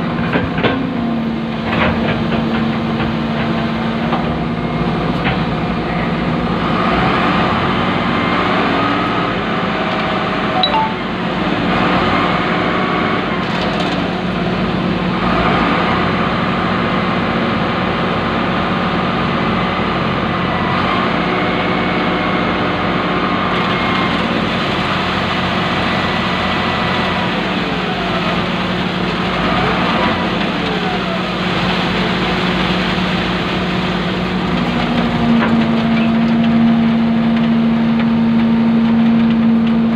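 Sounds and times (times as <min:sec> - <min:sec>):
concrete mixer truck running: 0:00.0 - 0:39.9
excavator engine from inside cab: 0:00.0 - 0:39.9.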